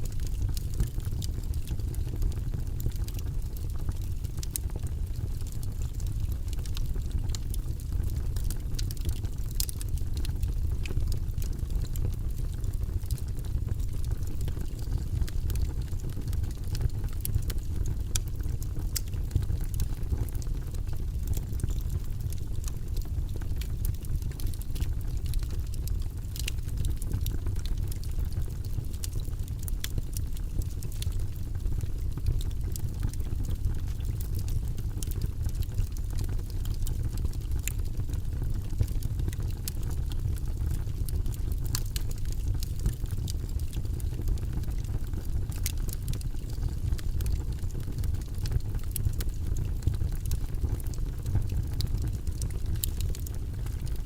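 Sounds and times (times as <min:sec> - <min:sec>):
wood crackling and popping: 0:00.1 - 0:54.0.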